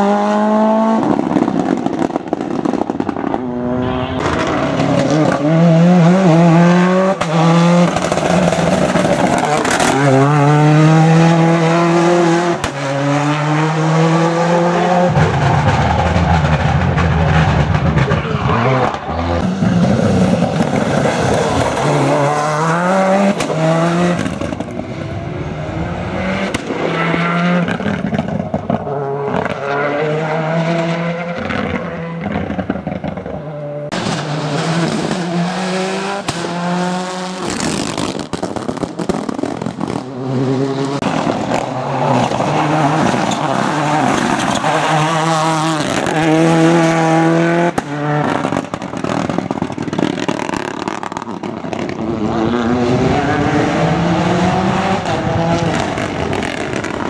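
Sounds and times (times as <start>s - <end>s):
rally car engines accelerating: 0.0s - 57.0s.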